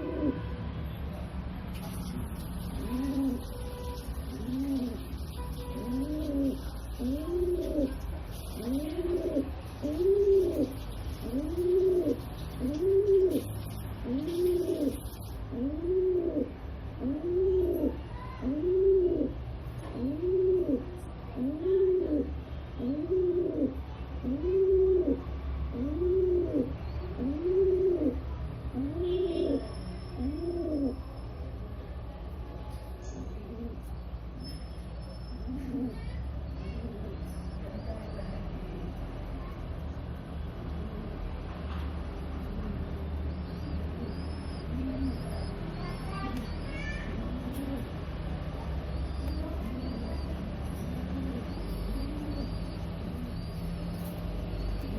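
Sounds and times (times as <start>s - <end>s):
pigeon cooing: 2.0s - 31.1s, 33.0s - 34.0s, 35.4s - 39.9s, 42.0s - 54.9s.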